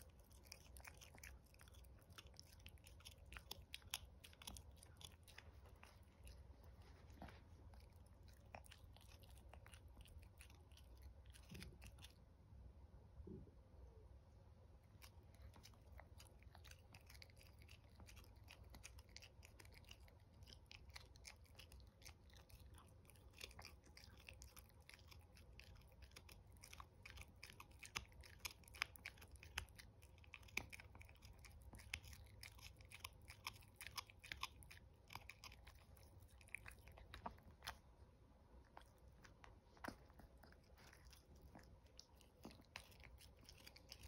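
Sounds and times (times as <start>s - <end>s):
puppy chewing a stick: 0.0s - 12.4s, 14.8s - 44.0s.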